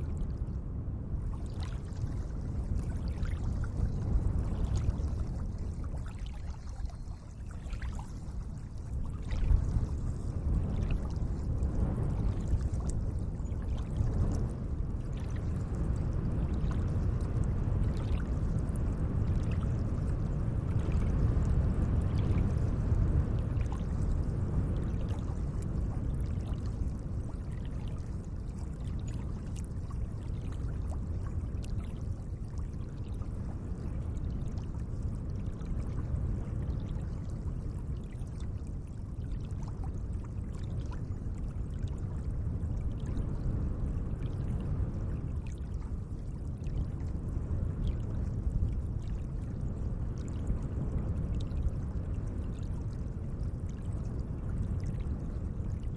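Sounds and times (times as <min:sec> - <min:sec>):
small water splashes and drips: 0:01.2 - 0:55.9.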